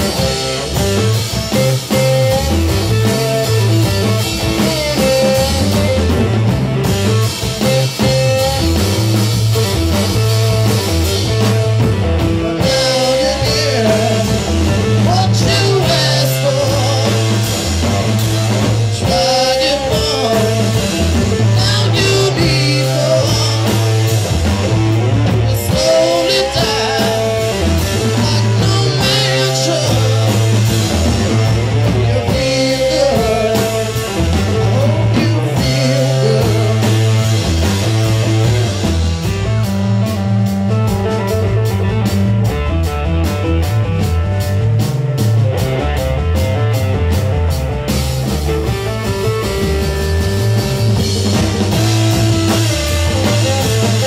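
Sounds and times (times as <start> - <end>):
bending lead guitar: 0.0 - 54.0
live rock band playing: 0.0 - 54.0
stepping bass line: 0.0 - 54.0.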